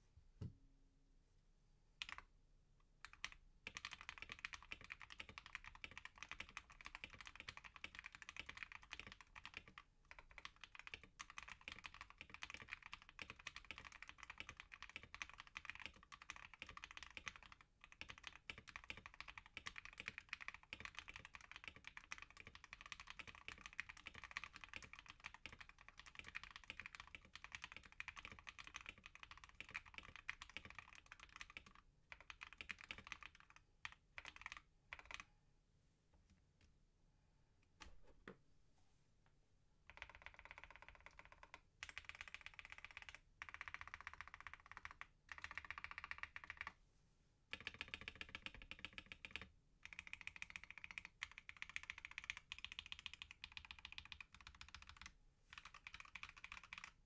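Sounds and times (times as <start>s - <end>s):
fast typing on mechanical keyboard: 2.0s - 2.2s, 3.0s - 35.2s, 39.9s - 46.8s, 47.5s - 57.0s.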